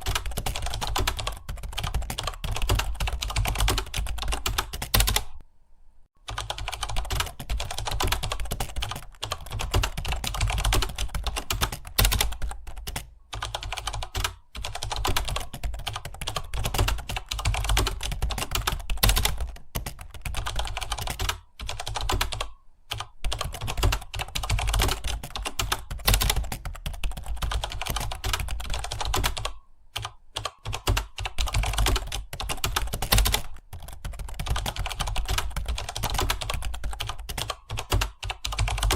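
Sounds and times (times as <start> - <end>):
computer keyboard typing: 0.0 - 5.4, 6.2 - 38.9.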